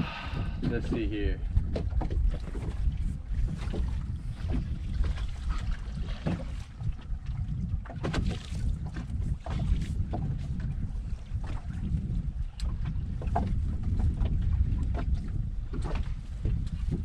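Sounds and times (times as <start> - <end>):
water slapping boat hull: 0.0 - 17.0
wind buffeting microphone: 0.0 - 17.0.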